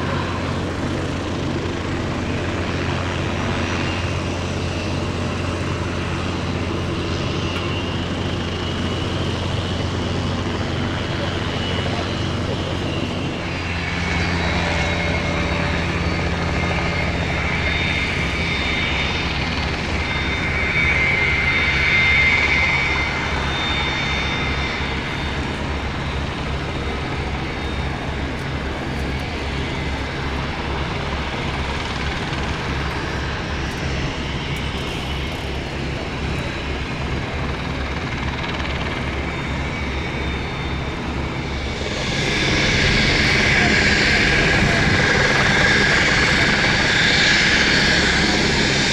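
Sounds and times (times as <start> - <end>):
jet engines rumbling and whining: 0.0 - 48.9.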